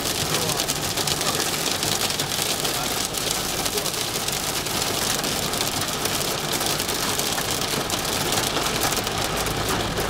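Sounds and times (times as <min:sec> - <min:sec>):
car engine and road noise: 0:00.0 - 0:10.0
heavy rain on car: 0:00.0 - 0:10.0.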